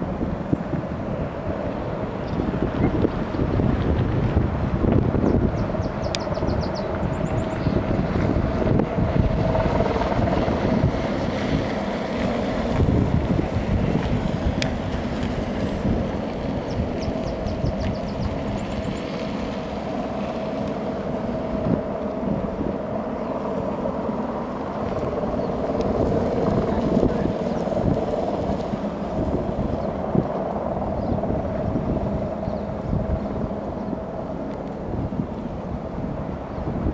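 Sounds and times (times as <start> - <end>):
helicopter rotor and turbine drone: 0.0 - 36.9
wind buffeting microphone: 0.0 - 36.9.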